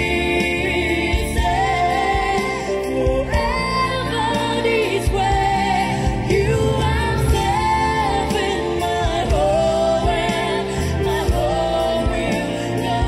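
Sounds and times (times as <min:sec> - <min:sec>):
woman singing a ballad: 0:00.0 - 0:13.0.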